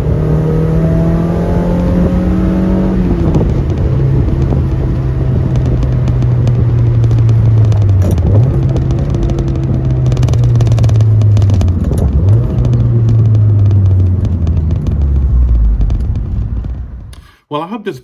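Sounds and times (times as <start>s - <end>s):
car engine running: 0.0s - 17.2s.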